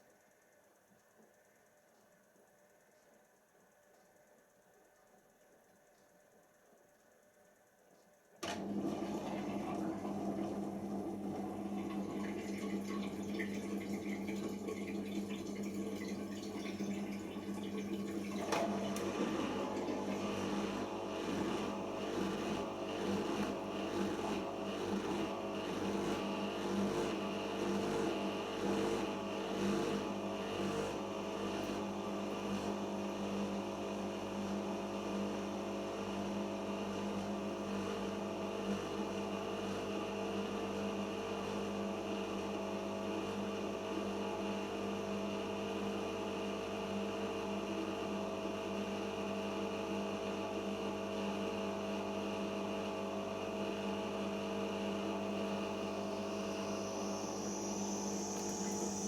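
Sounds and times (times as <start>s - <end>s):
washing machine spinning: 8.4s - 59.0s.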